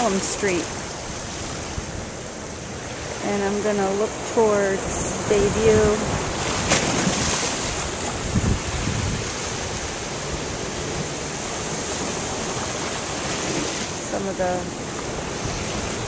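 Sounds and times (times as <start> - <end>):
surf breaking against seawall: 0.0 - 16.0
wind buffeting microphone: 0.0 - 16.0.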